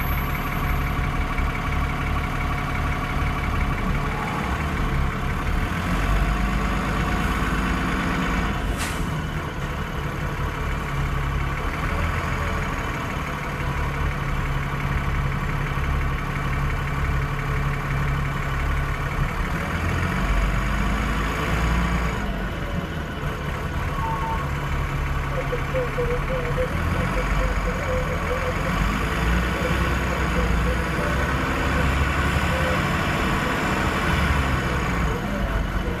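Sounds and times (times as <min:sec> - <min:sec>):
bus diesel engine running: 0:00.0 - 0:36.0.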